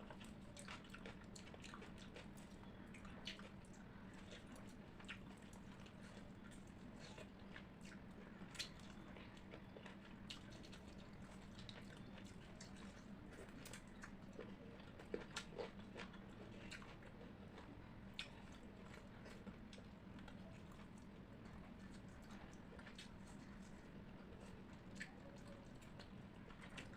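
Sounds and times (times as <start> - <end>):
faint steady hum: 0.0 - 26.9
wet chewing mouth sounds: 0.0 - 26.9.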